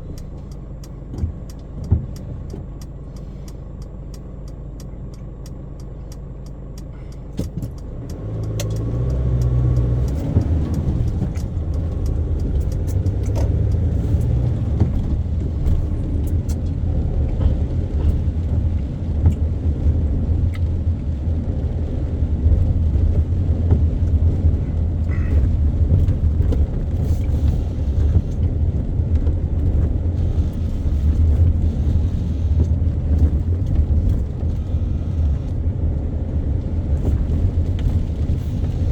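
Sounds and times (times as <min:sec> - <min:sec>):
car engine rumble: 0:00.0 - 0:38.9
road noise: 0:00.0 - 0:38.9.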